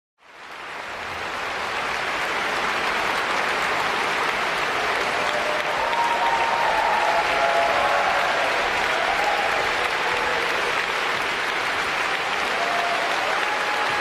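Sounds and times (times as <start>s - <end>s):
audience applauding: 0.3s - 14.0s.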